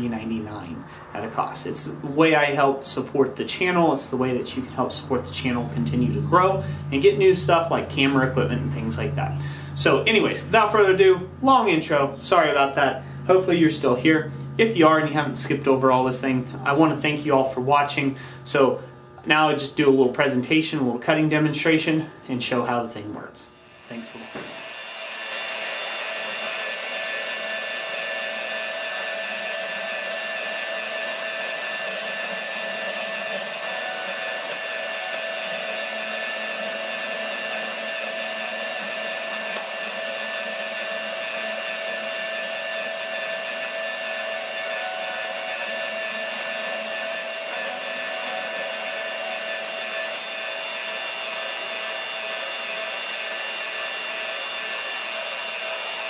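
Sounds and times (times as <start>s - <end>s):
band saw cutting metal: 4.1s - 17.0s, 23.6s - 56.0s.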